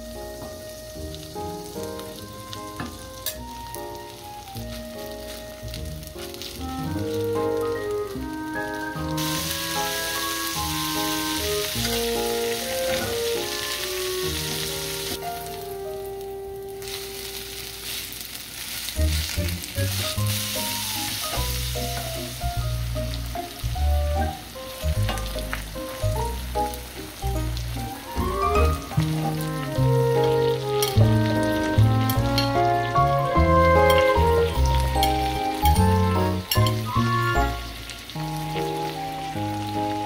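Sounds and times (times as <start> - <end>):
potatoes sizzling in a skillet: 0.0 - 40.0.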